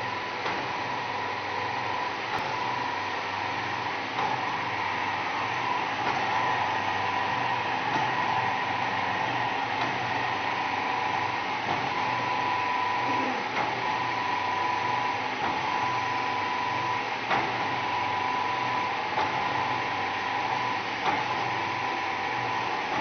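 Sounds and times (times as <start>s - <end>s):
machine whirring and humming: 0.0s - 23.0s.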